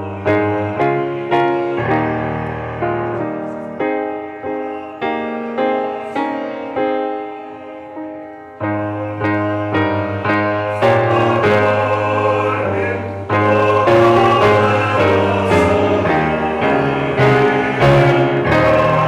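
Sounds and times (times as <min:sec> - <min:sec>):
piano playing hymn chords: 0:00.0 - 0:19.0.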